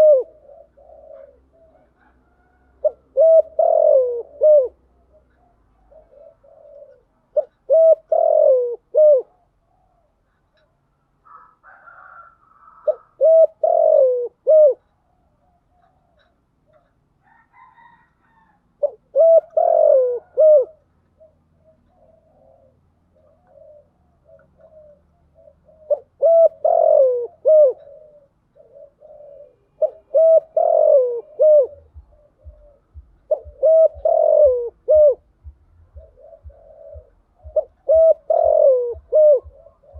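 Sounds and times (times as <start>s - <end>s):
dove cooing: 0.0s - 39.9s
higher faint bird calls: 0.0s - 39.9s.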